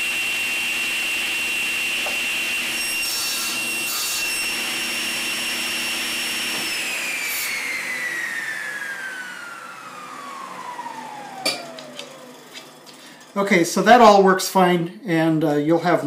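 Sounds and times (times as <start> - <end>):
table saw whining: 0.0 - 14.2.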